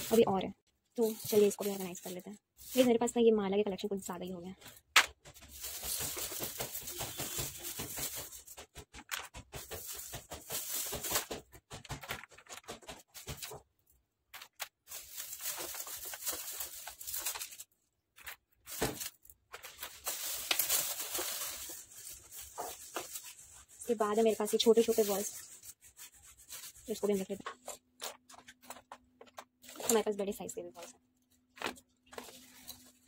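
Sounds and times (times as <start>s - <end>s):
plastic bag rustling: 0.0s - 0.4s, 1.0s - 4.0s, 4.6s - 13.6s, 14.4s - 33.0s.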